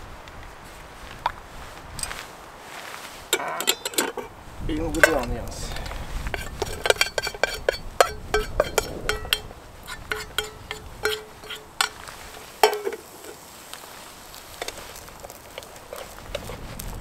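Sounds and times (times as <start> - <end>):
utensil scraping a frying pan: 3.1 - 17.0
onions sizzling in oil: 3.3 - 17.0.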